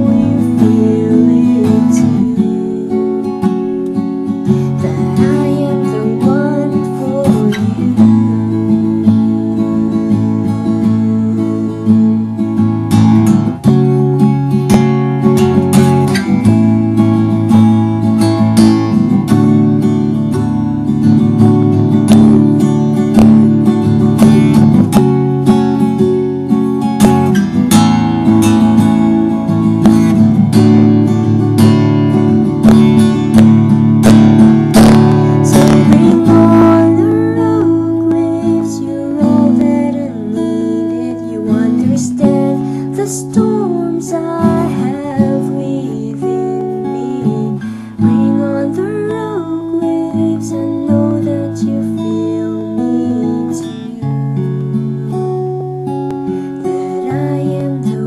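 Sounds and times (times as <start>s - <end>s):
acoustic guitar strumming chords: 0.0s - 58.0s.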